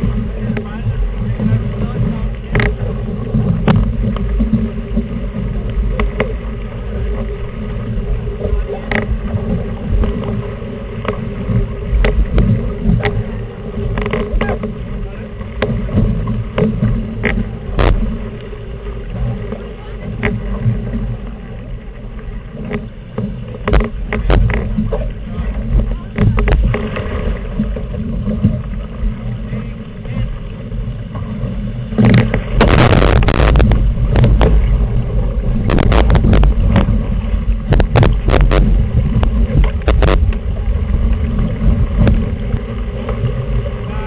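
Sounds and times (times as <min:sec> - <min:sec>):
knocks and clatters from boat: 0:00.0 - 0:44.0
water rushing past hull: 0:00.0 - 0:44.0
wind buffeting microphone: 0:00.0 - 0:44.0.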